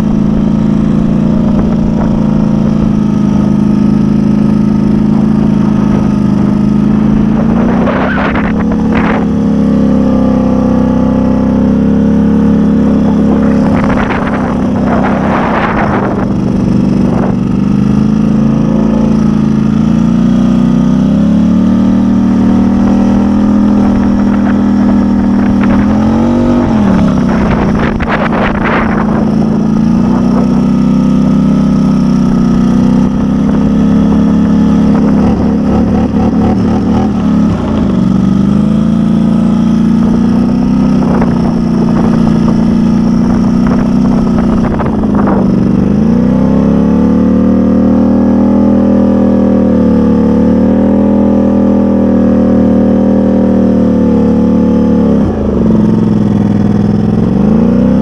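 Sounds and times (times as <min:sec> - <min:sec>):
atv engine running loud: 0:00.0 - 0:58.0.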